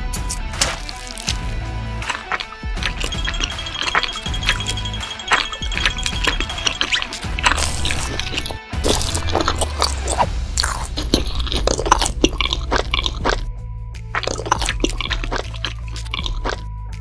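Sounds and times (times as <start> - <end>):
background music: 0.0 - 17.0
crunchy eating and chewing: 0.6 - 13.5, 14.1 - 16.7.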